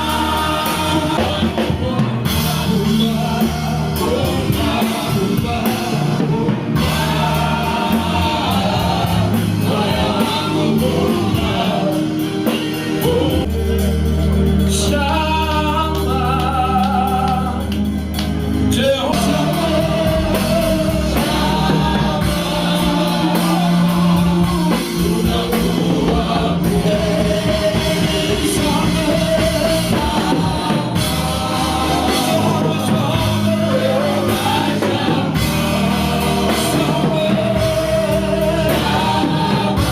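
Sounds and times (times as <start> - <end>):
band with sustained bass: 0.0 - 39.9
voices singing gospel: 0.0 - 39.9.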